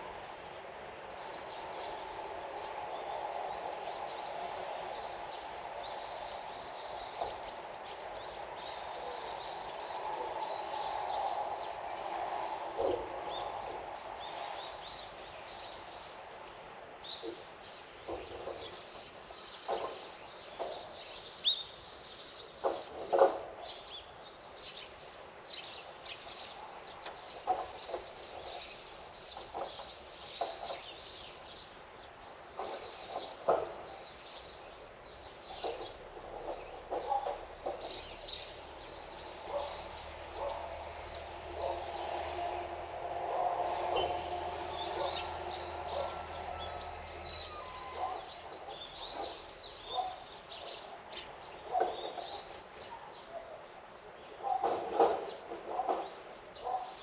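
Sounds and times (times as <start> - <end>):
small birds chirping: 0.0 - 42.6, 43.3 - 57.0
outdoor background hum: 0.0 - 57.0.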